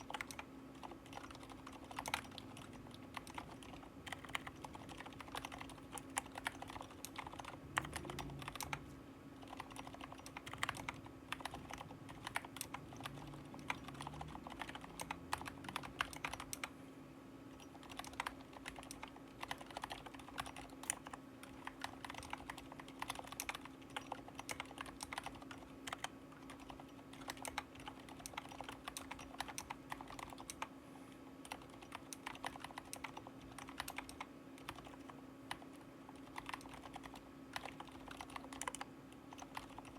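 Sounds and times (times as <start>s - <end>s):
muted mechanical keyboard typing: 0.0s - 16.7s, 17.5s - 30.7s, 31.4s - 39.9s
steady low hum: 0.0s - 39.9s.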